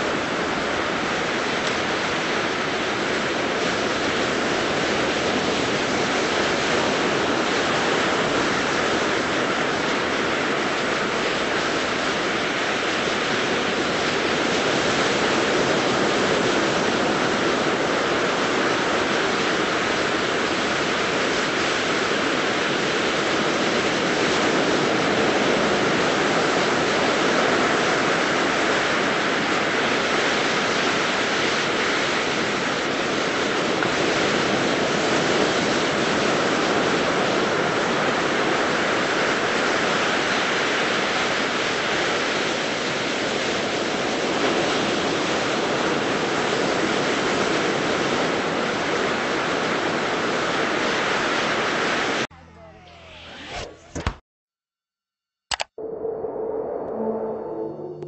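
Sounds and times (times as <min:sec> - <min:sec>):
ocean surf breaking on beach: 0:00.0 - 0:52.3.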